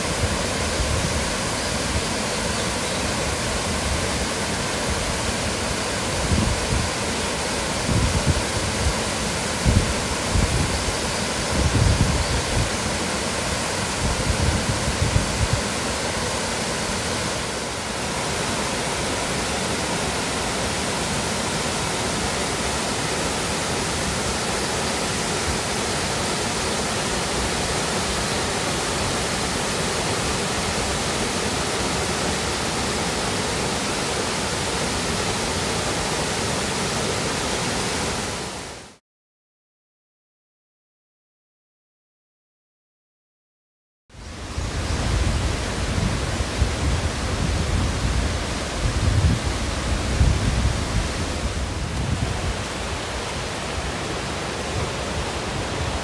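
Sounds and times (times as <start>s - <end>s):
waterfall rushing: 0.0s - 39.0s, 44.2s - 56.0s.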